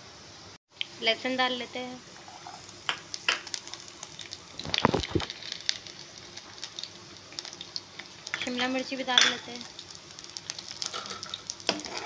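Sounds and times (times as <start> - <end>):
garlic and onion frying in oil: 0.0 - 12.0.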